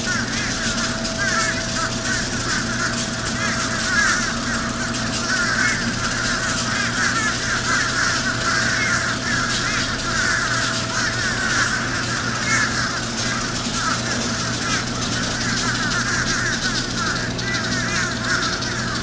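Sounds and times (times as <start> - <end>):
crows cawing: 0.0 - 19.0
steady low hum: 0.0 - 19.0.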